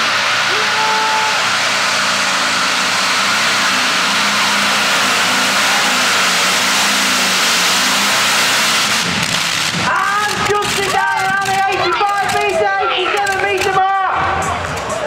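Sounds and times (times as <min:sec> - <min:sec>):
tractor engine running flat out: 0:00.0 - 0:15.0.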